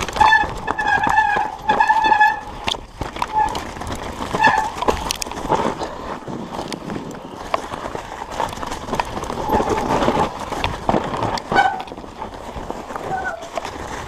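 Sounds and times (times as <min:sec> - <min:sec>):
bike knocking and rattling: 0:00.0 - 0:14.0
bike tyres through snow: 0:00.0 - 0:14.0.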